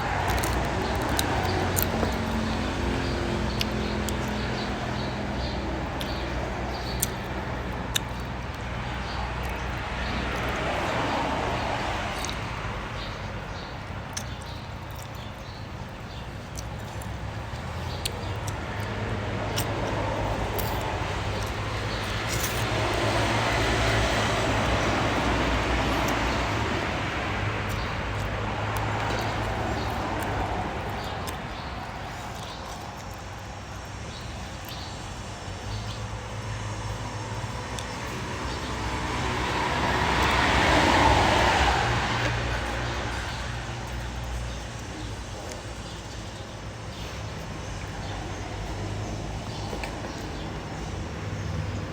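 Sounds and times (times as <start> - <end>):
vehicles passing: 0.0 - 51.9.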